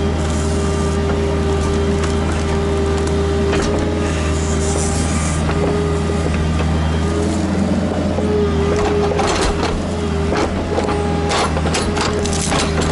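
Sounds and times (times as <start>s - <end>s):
diesel engine hum: 0.0s - 12.9s
hydraulic pump whine: 0.0s - 12.9s.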